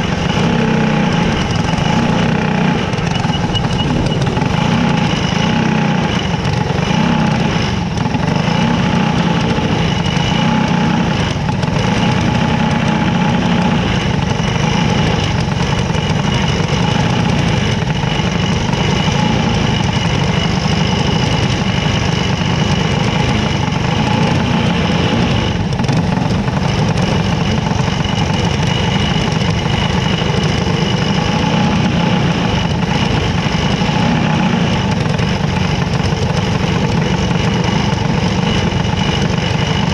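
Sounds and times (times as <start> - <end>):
race car engines idling: 0.0 - 39.9.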